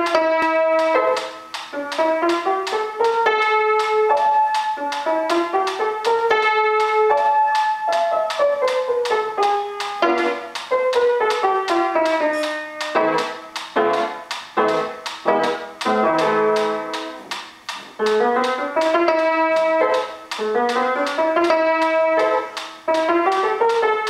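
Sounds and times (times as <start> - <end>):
grand piano playing: 0.0 - 24.0.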